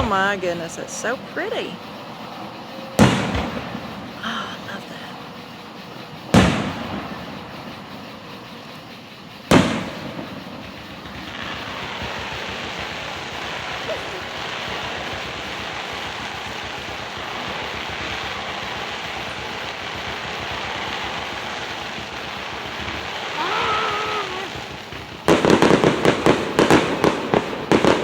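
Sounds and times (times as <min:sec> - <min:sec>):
background hiss: 0:00.0 - 0:28.0
fireworks bursting with bangs: 0:00.0 - 0:28.0.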